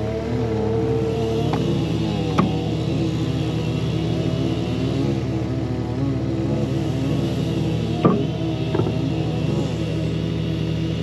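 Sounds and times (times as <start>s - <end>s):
chainsaw engines running: 0.0s - 11.0s.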